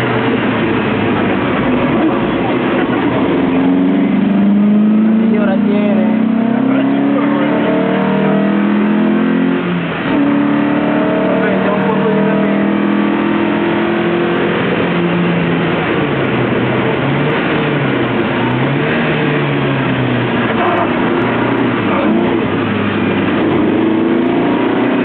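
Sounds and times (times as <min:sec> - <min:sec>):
car engine revving: 0:00.0 - 0:25.0
wind and road noise: 0:00.0 - 0:25.0.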